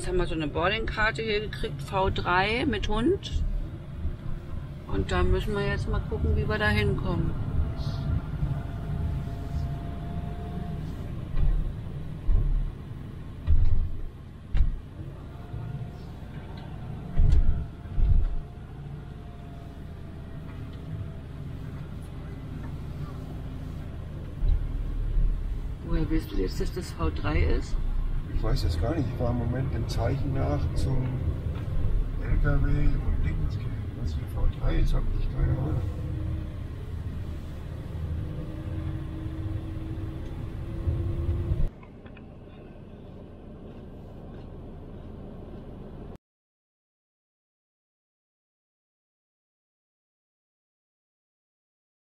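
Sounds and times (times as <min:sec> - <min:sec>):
vehicle engine and road rumble: 0:00.0 - 0:46.2.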